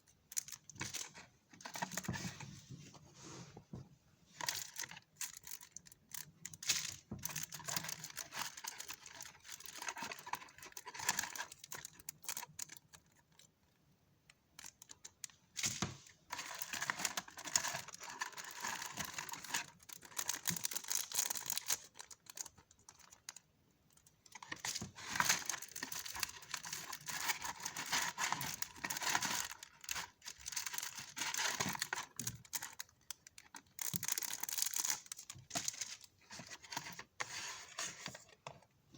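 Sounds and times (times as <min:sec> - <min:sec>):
plastic packaging crinkling: 0:04.4 - 0:13.2, 0:14.6 - 0:23.4, 0:24.3 - 0:38.3.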